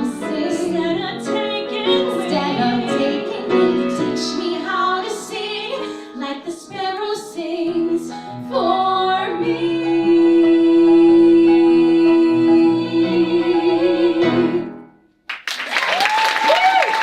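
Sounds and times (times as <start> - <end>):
two women singing in harmony: 0.0 - 14.8.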